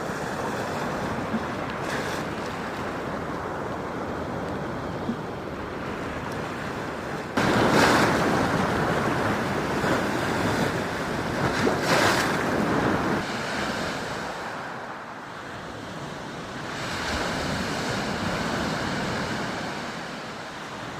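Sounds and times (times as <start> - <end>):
waves breaking on shore: 0.0 - 20.9.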